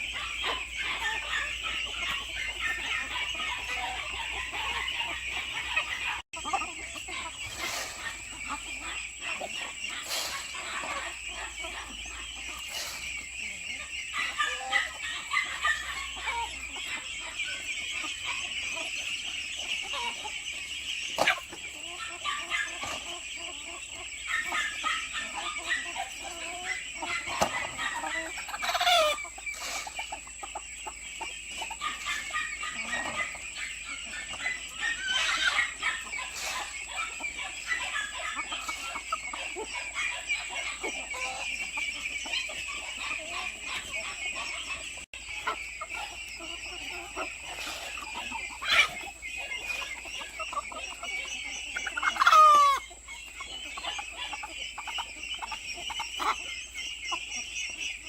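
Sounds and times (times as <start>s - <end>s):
hens clucking: 0.0s - 58.0s.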